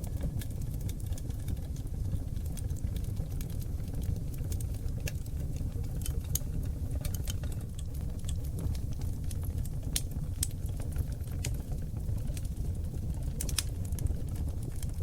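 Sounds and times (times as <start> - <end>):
log fire crackling and popping: 0.0 - 15.0
low rumble of flames: 0.0 - 15.0.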